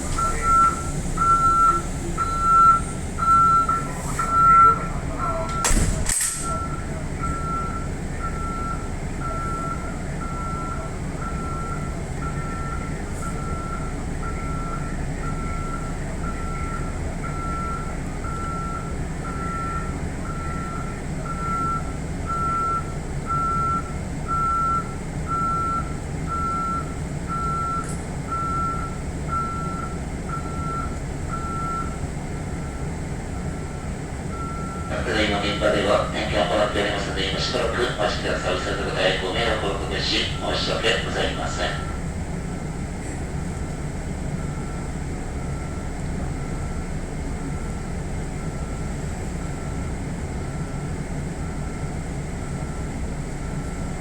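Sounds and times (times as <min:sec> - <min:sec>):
low hum of train equipment: 0:00.0 - 0:54.0.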